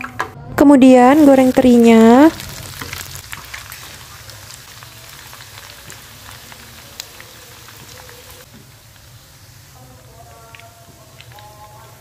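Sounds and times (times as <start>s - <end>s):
fish frying in hot oil: 1.2s - 12.0s.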